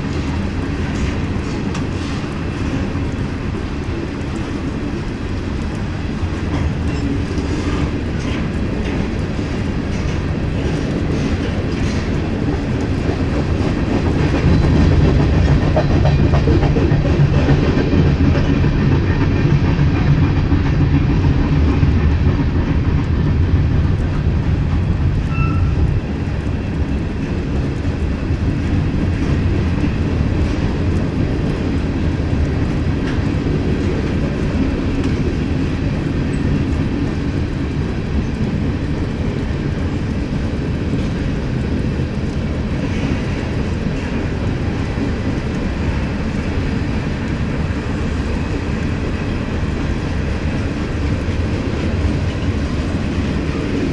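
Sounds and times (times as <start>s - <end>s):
freight train cars rolling past: 0.0s - 53.9s.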